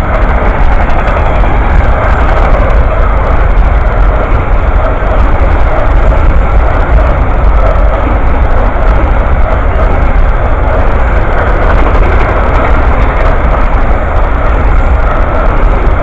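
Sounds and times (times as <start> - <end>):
passenger train rumbling past: 0.0 - 16.0.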